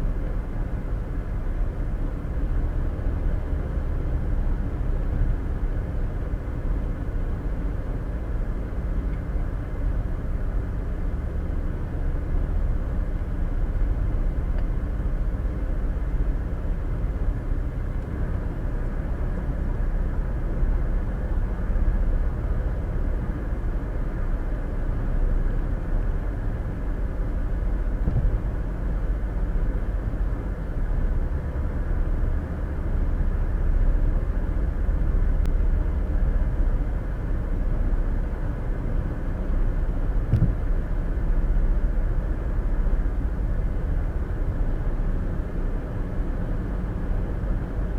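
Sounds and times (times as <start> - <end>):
car driving at highway speed: 0.0 - 47.9.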